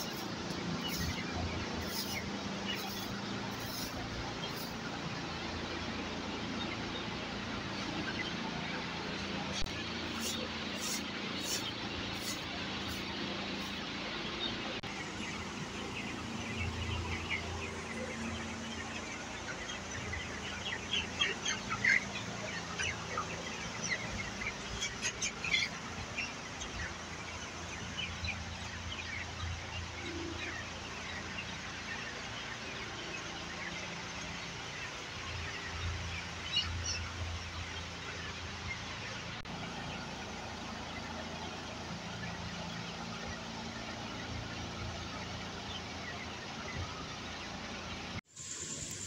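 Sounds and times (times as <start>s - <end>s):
chickens calling: 0.0s - 48.2s.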